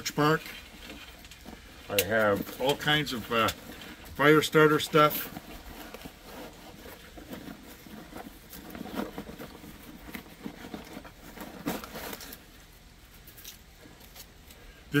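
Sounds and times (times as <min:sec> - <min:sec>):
cloth and bark rustling: 0:00.0 - 0:15.0.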